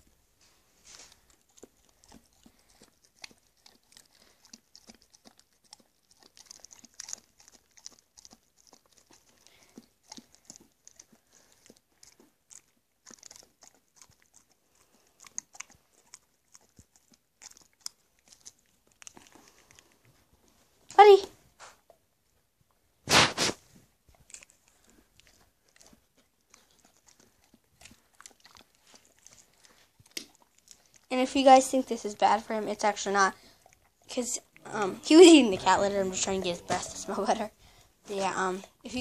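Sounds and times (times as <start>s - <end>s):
dog licking and chewing: 0.4s - 39.0s.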